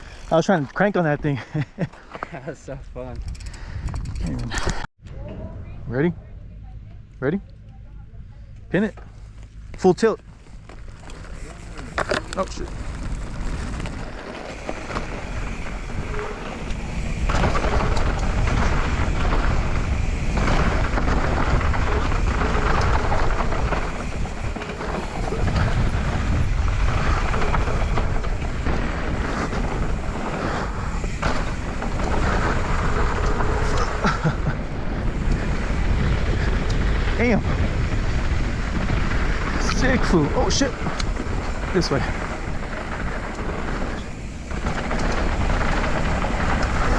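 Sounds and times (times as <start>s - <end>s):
bike tyre noise: 0.0s - 4.9s, 8.0s - 46.9s
bike knocking and rattling: 0.0s - 5.5s, 8.5s - 46.9s
wind rushing on microphone: 2.7s - 5.9s, 11.0s - 46.9s
low rumble: 2.8s - 46.9s.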